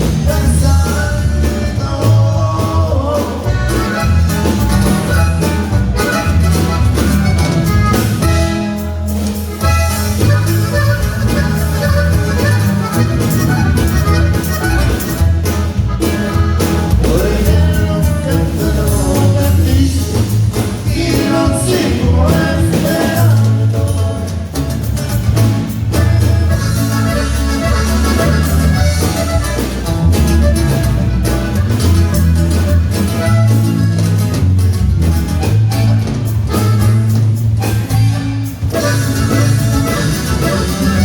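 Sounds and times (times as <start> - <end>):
accordion melody: 0.0 - 41.0
pulsing bass line: 0.0 - 41.0.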